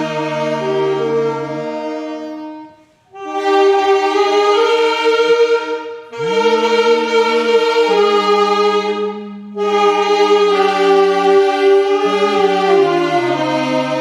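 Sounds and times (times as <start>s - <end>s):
choir singing sustained chords: 0.0s - 1.9s, 3.1s - 14.0s.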